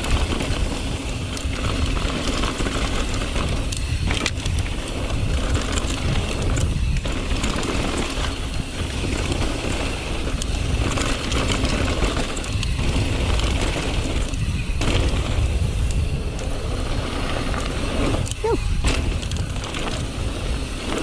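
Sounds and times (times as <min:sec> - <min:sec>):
bike clattering over rough ground: 0:00.0 - 0:21.0
bike tyre noise: 0:00.0 - 0:21.0
wind rumbling on microphone: 0:00.0 - 0:21.0.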